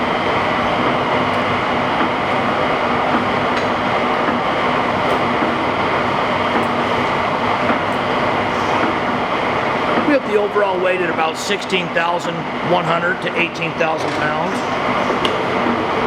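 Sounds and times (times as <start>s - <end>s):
lathe whirring and humming: 0.0s - 16.0s.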